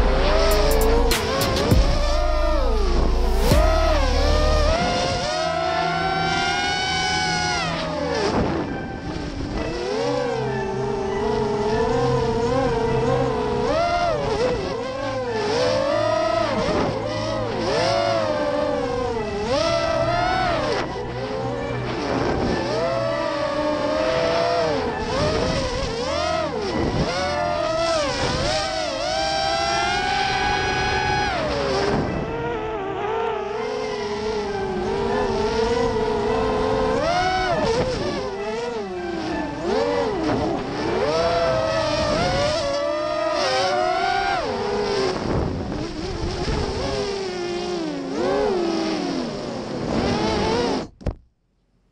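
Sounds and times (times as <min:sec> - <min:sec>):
quadcopter motors whining: 0:00.0 - 0:51.0.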